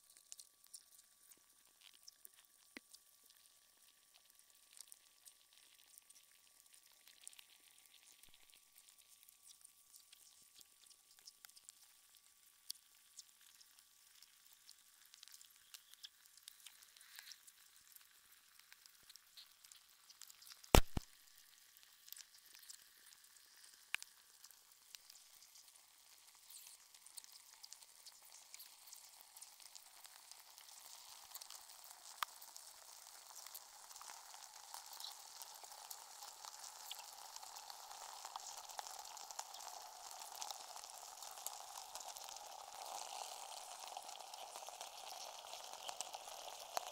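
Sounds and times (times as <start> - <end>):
ice crackling and ticking: 0.0 - 46.9.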